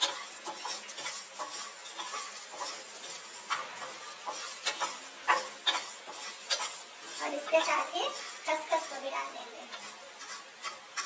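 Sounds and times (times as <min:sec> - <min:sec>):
light sizzle: 0:00.0 - 0:11.0
seeds rustling and scraping in pan: 0:00.0 - 0:11.0.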